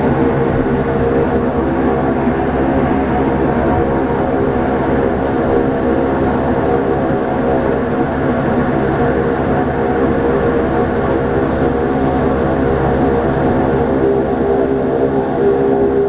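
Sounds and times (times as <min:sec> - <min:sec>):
turboprop engines droning in cabin: 0:00.0 - 0:16.0.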